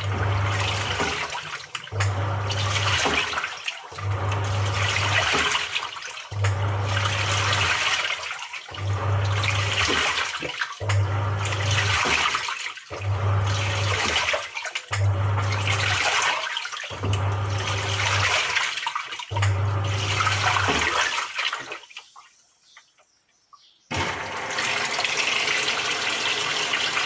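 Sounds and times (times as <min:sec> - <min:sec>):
washing machine motor humming: 0:00.0 - 0:22.0, 0:23.9 - 0:27.0
water churning and splashing: 0:00.0 - 0:22.5, 0:23.9 - 0:27.0.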